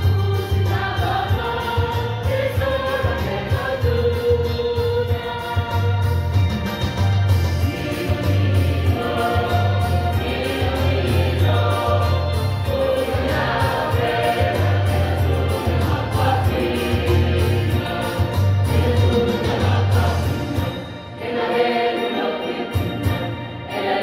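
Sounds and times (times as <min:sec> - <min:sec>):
choir singing: 0:00.0 - 0:06.6, 0:07.4 - 0:24.0.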